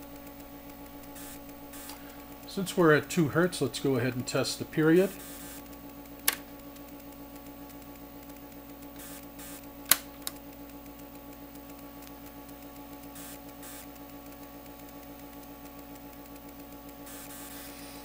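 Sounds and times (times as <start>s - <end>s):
electrical hum from test equipment: 0.0s - 18.0s.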